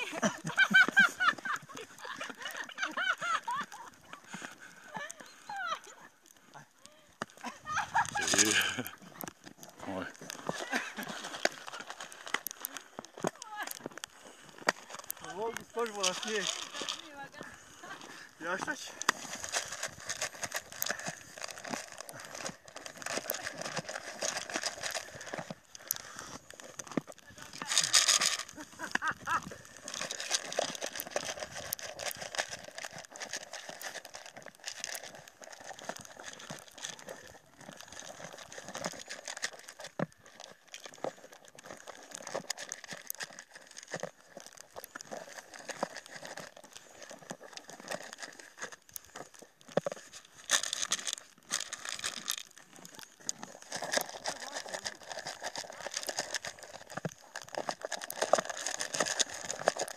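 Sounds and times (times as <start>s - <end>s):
horse crunching grain: 0.0s - 59.9s.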